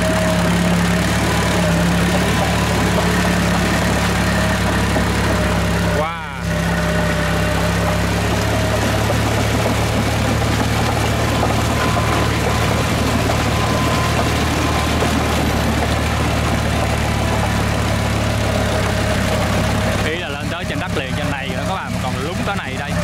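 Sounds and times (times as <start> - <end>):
bulldozer diesel engine under load: 0.0 - 23.0
tracks churning through mud: 0.0 - 23.0.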